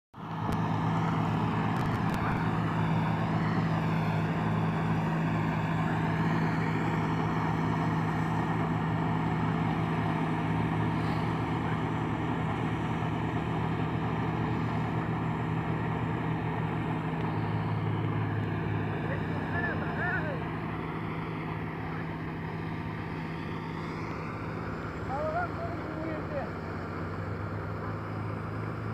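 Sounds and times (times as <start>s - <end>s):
tractor diesel engine running: 0.2s - 28.9s.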